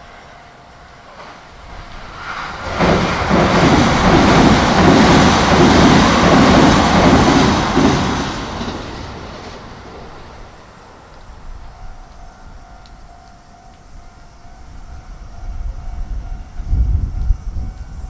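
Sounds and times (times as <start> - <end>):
rhythmic train clatter: 0.0 - 18.0
train wheels rushing on rail: 0.0 - 18.0.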